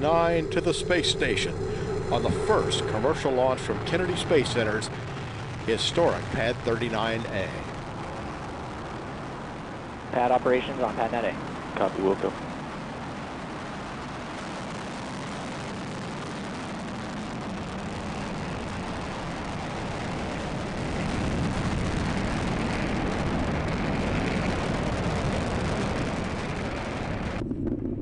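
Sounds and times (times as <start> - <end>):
distant rocket engine rumble: 0.0 - 28.0.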